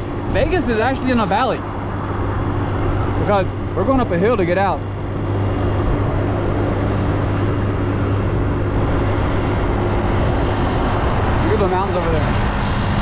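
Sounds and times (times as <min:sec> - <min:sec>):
scooter engine droning: 0:00.0 - 0:13.0
wind and road noise: 0:00.0 - 0:13.0.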